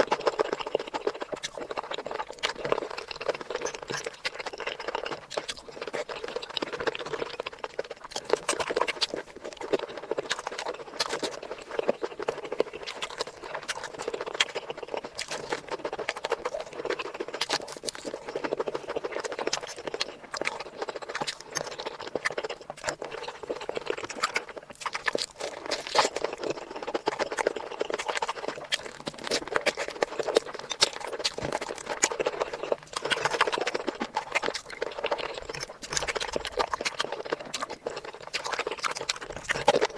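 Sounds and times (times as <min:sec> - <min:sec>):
mouth clicks and smacks: 0:00.0 - 0:39.9
wet chewing: 0:00.0 - 0:39.9.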